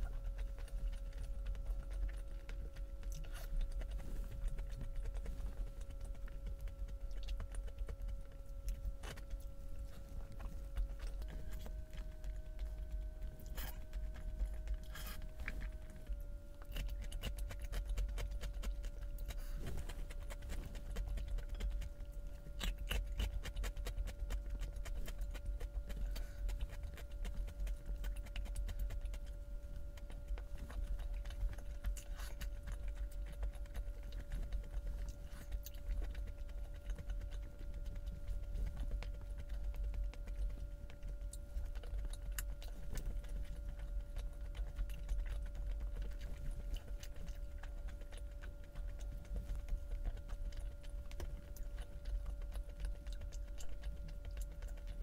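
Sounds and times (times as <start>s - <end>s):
chewing clicks and smacks: 0.0s - 55.0s
faint steady hum: 0.0s - 55.0s.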